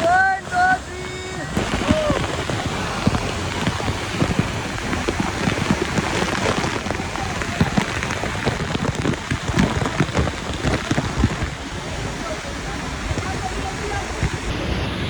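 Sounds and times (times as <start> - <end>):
spray pattering: 0.0 - 15.0
waterfall rushing: 0.0 - 15.0.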